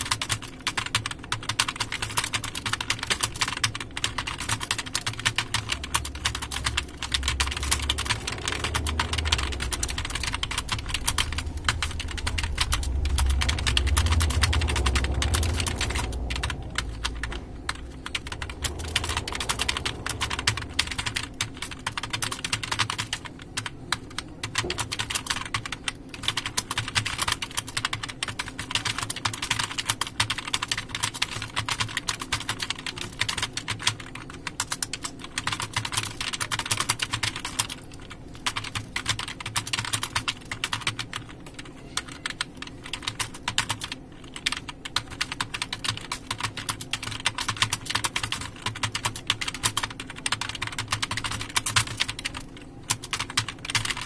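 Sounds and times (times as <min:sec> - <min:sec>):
fast typing on keyboard: 0:00.0 - 0:54.0.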